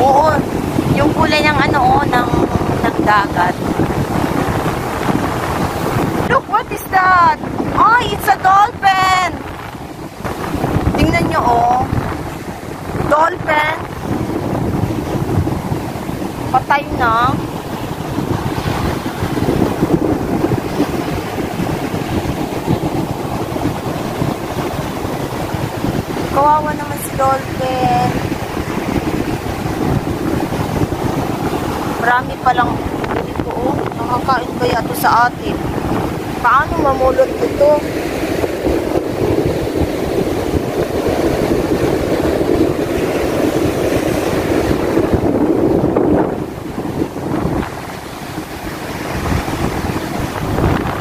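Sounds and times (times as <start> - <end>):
surf breaking on beach: 0.0 - 51.0
wind buffeting microphone: 0.0 - 51.0.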